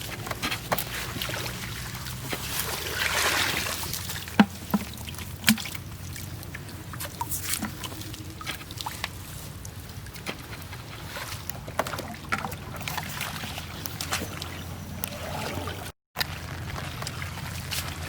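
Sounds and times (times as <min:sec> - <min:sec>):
water splashing and trickling: 0:00.0 - 0:18.0.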